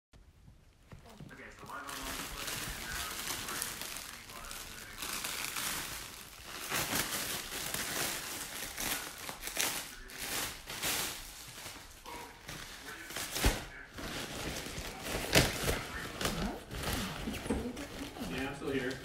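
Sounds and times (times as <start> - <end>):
plastic packaging crinkling: 0.9 - 19.0.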